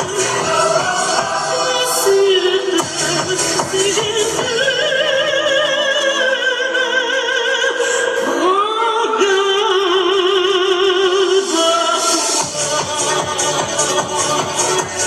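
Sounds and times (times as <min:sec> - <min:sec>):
singing voice with strong vibrato: 0:00.0 - 0:15.0.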